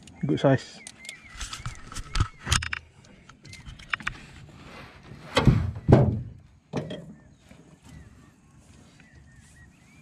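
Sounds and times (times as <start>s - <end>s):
light rattling and scraping: 0.8s - 9.5s.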